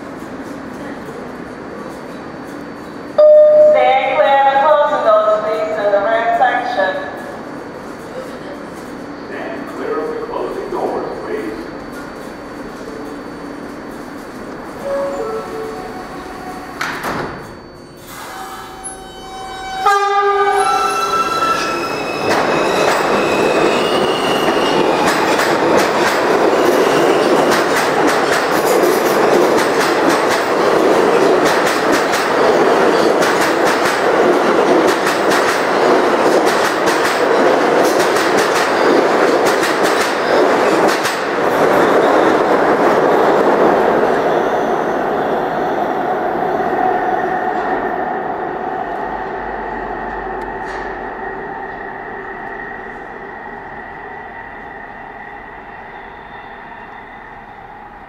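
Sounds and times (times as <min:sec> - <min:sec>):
rumble of train cars: 0:00.0 - 0:58.0.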